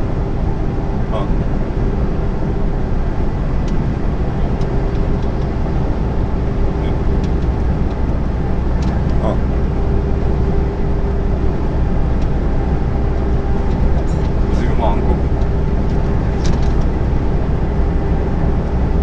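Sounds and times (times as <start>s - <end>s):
constant hum: 0.0s - 19.0s
road and wind noise: 0.0s - 19.0s
truck engine drone: 0.0s - 19.0s.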